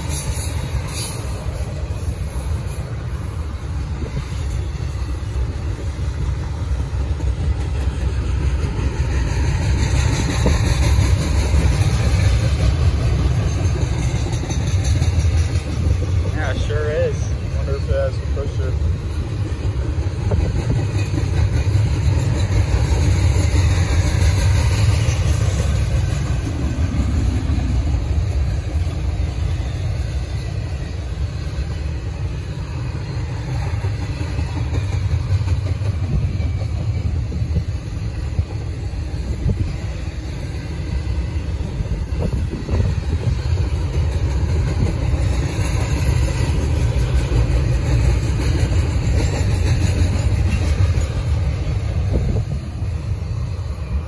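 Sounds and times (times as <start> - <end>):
freight cars rumbling on track: 0.0 - 54.0.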